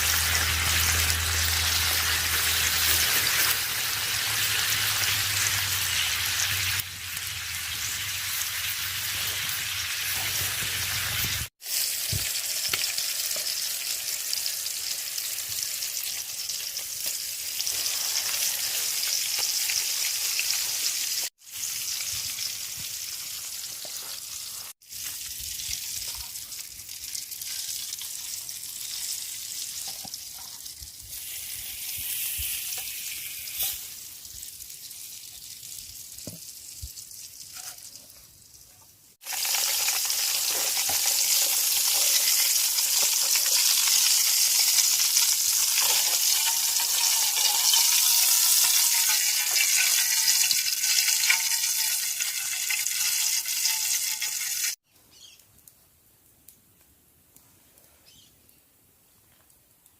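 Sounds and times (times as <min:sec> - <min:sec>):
food sizzling in a pan: 0:00.0 - 0:55.3.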